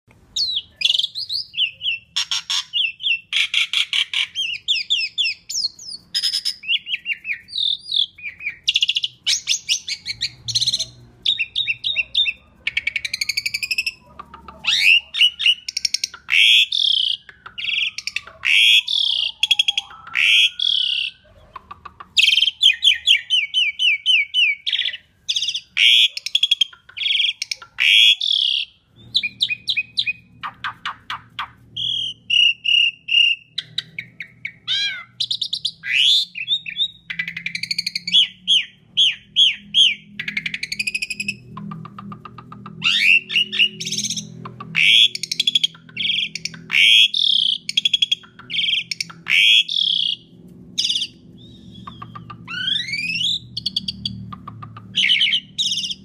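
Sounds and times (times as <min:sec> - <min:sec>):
starling singing: 0:00.3 - 0:56.0.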